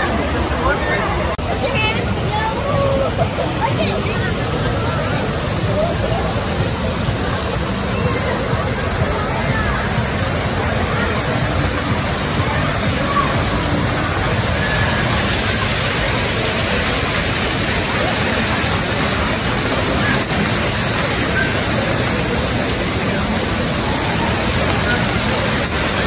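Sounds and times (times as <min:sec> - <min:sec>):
crowd voices: 0:00.0 - 0:26.0
water rushing and splashing: 0:00.0 - 0:26.0.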